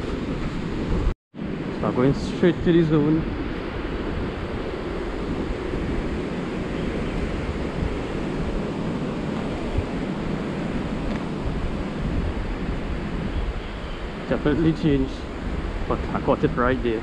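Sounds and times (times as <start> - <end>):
surf washing on beach: 0.0 - 17.0
wind on microphone: 0.0 - 17.0.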